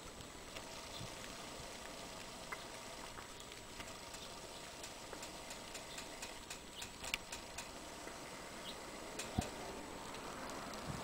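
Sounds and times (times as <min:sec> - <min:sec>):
light ticks and clicks: 0:00.0 - 0:08.2, 0:09.1 - 0:11.0
faint background hiss: 0:00.0 - 0:11.0.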